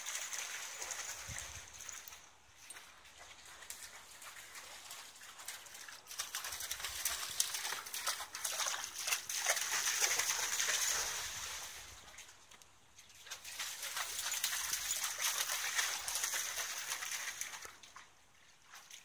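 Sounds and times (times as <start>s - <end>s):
dog splashing through water: 0.0s - 2.0s, 3.0s - 12.3s, 13.2s - 19.0s.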